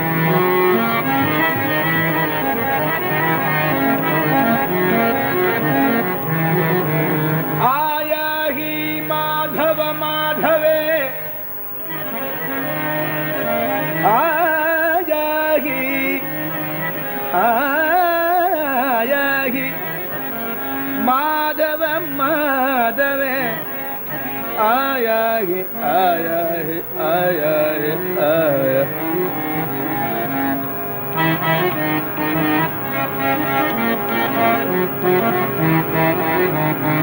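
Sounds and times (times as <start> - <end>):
man singing devotional melody: 0.0 - 37.0.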